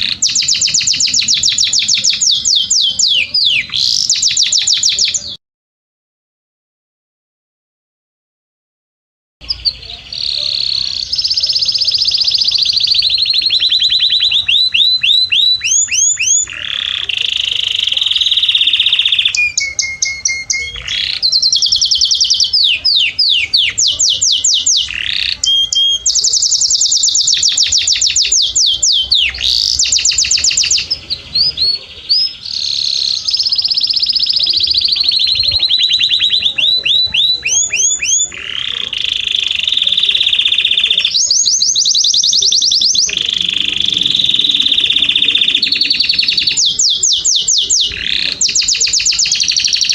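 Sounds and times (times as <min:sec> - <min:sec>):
canary singing trills: 0:00.0 - 0:05.4, 0:09.4 - 0:49.9.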